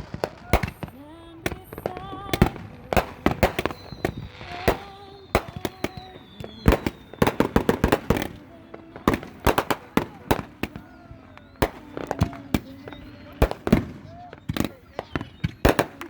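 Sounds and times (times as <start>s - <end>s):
descending whistling tone: 0.0s - 16.0s
fireworks and firecrackers banging: 0.0s - 16.0s.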